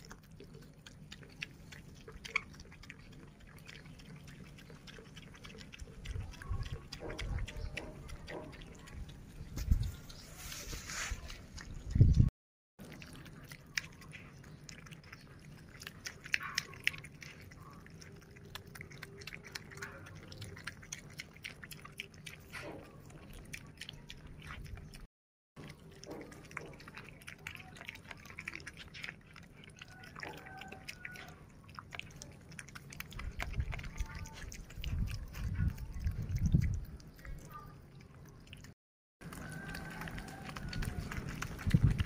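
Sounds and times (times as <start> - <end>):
pig chewing and smacking: 0.0 - 42.0.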